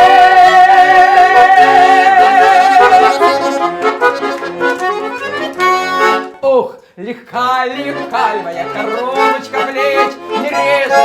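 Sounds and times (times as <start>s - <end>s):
button accordion playing: 0.0s - 6.5s, 7.4s - 11.0s.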